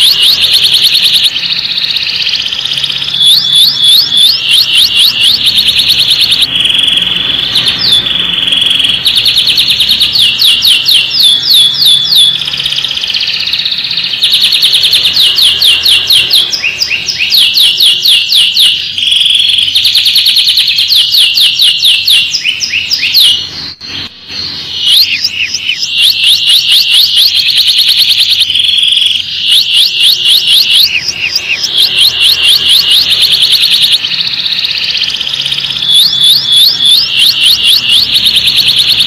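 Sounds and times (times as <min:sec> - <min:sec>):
canary singing trills: 0:00.0 - 0:39.0.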